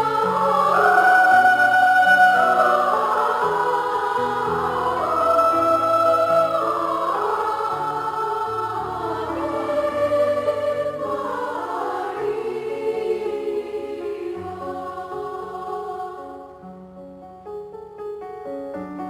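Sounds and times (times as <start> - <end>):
choir singing a hymn: 0.0 - 16.8.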